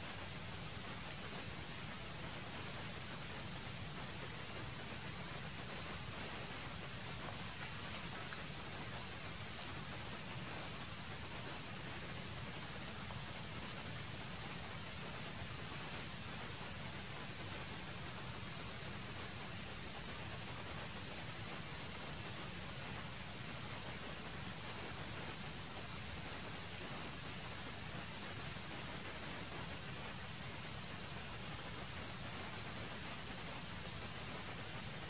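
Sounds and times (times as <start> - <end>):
insects droning: 0.0 - 35.0
low background hiss: 0.0 - 35.0.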